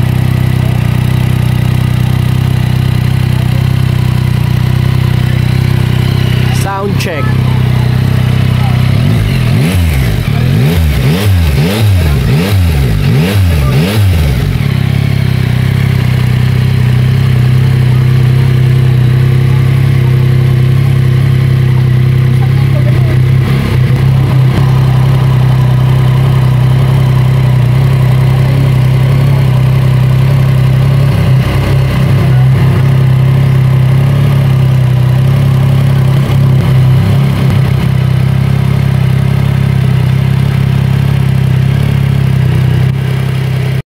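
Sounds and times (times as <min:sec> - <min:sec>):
motorcycle engine revving and idling: 0:00.0 - 0:43.8.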